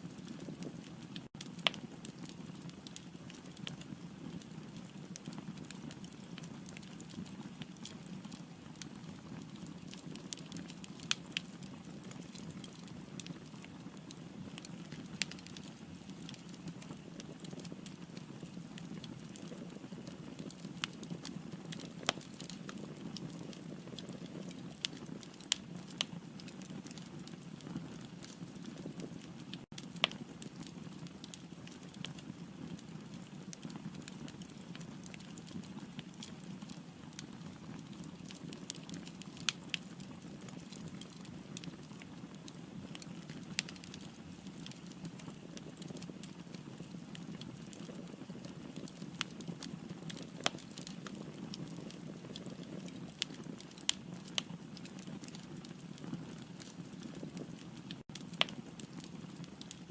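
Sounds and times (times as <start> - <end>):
fire flames rumbling: 0.0 - 59.9
wood popping and crackling: 0.2 - 59.9.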